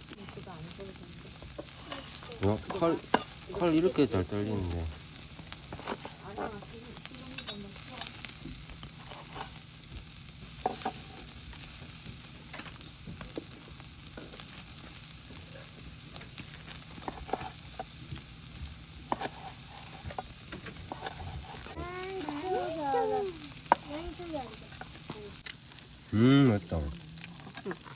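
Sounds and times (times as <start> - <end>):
meat sizzling on a grill: 0.0 - 27.9.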